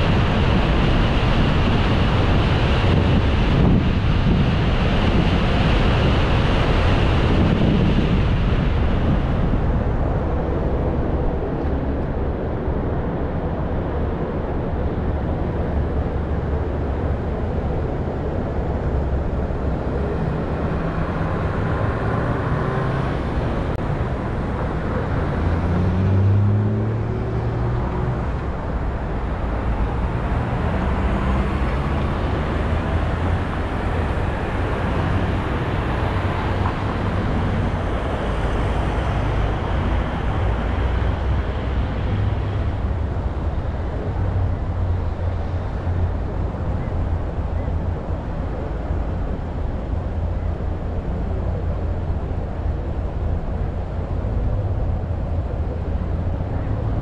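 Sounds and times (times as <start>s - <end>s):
car road and wind noise: 0.0s - 57.0s
passing vehicle engine hum: 0.0s - 57.0s
traffic rumble: 0.0s - 57.0s.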